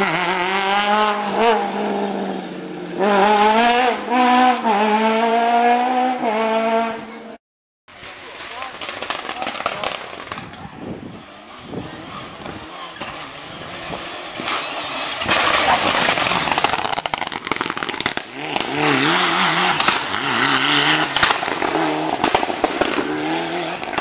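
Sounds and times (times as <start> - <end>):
engine revs rising and falling: 0.0 - 7.4, 11.3 - 24.0
rally car passing at full throttle: 0.0 - 7.4, 8.0 - 24.0.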